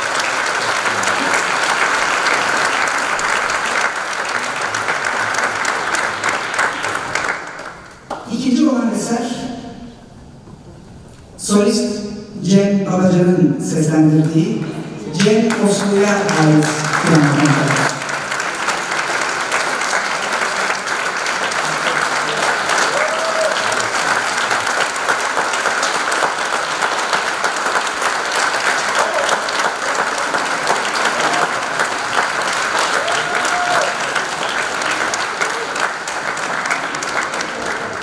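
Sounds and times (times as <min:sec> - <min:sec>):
audience applauding: 0:00.0 - 0:08.2, 0:14.6 - 0:38.0.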